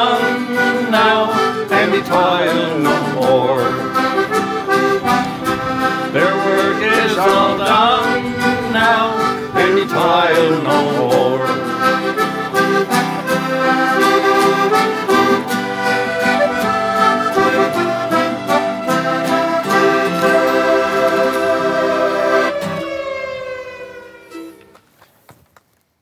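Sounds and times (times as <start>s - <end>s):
strummed acoustic guitars: 0.0s - 22.9s
mandolin: 0.0s - 23.0s
button accordion melody: 0.0s - 24.8s.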